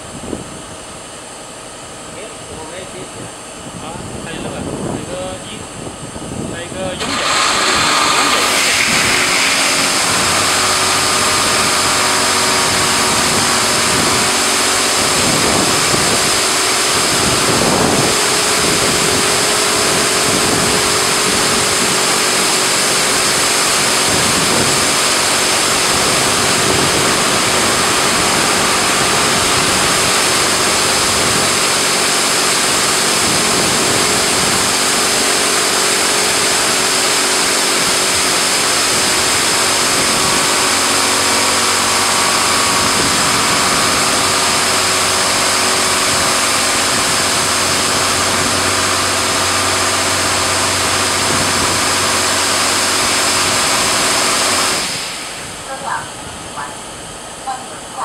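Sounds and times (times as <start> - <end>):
motor hum: 0.0 - 58.0.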